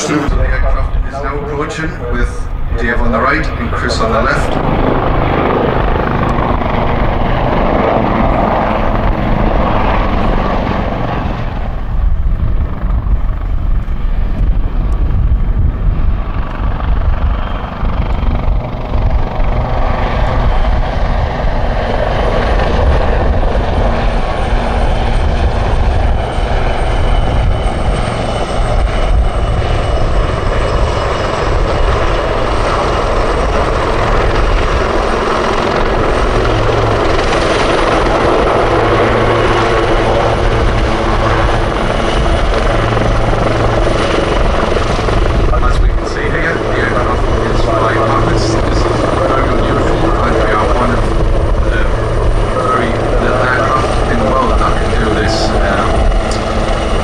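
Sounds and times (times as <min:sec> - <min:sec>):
helicopter rotor and turbine noise: 0:00.0 - 0:57.0
high turbine whine: 0:00.0 - 0:57.0.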